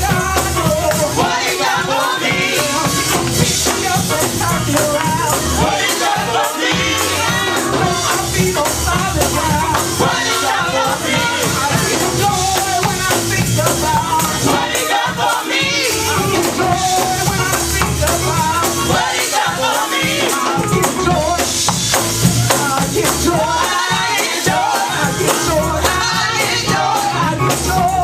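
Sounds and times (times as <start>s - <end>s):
fast tambourine: 0.0s - 28.0s
low band accompaniment: 0.0s - 28.0s
people singing and shouting: 0.0s - 28.0s.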